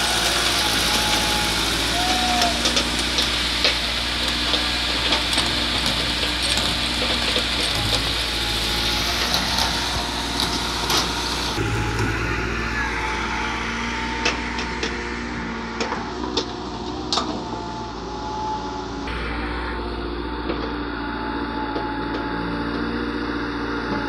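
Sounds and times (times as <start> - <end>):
excavator diesel engine: 0.0 - 24.0
tractors idling: 0.0 - 24.0.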